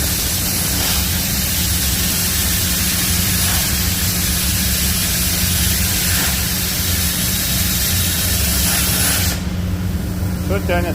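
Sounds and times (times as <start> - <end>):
plasma cutting torch hissing: 0.0 - 9.6.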